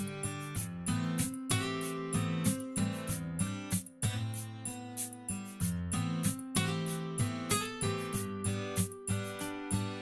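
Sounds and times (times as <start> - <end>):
music with strummed guitar: 0.0 - 10.0.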